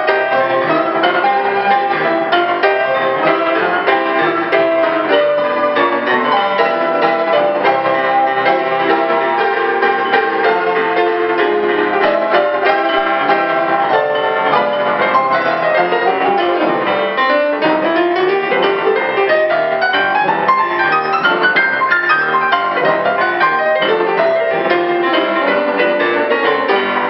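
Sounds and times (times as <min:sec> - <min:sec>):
piano duet: 0:00.0 - 0:27.0.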